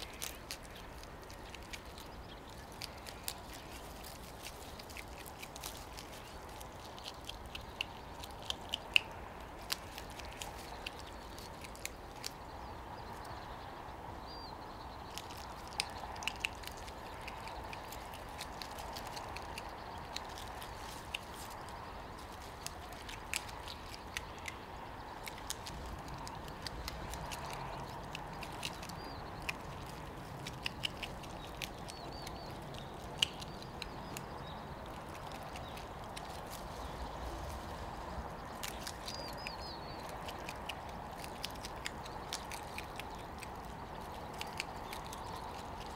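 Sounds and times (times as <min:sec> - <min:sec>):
wet chewing clicks: 0:00.0 - 0:13.6, 0:14.3 - 0:45.9.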